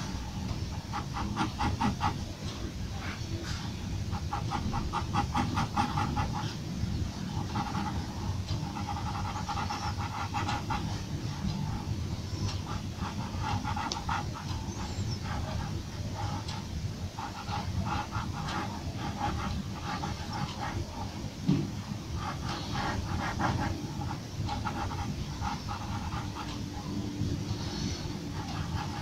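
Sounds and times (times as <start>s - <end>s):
pencil scratching on paper: 0.0s - 29.0s
steady low hum: 0.0s - 29.0s.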